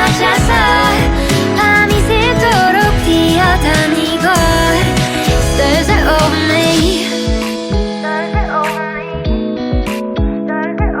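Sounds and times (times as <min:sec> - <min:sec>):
pop song with gliding lead melody: 0:00.0 - 0:11.0.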